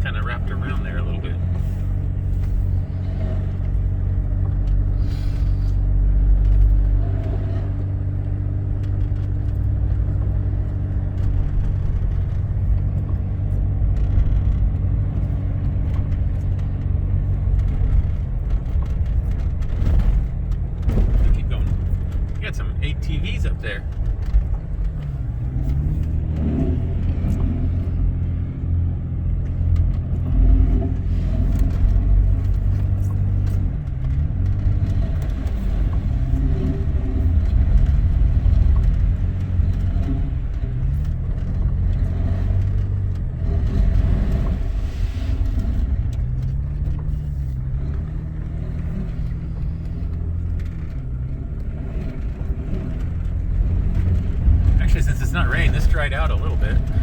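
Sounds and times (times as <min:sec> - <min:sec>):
off-road vehicle engine revving: 0:00.0 - 0:57.0
steady low rumble: 0:00.0 - 0:57.0.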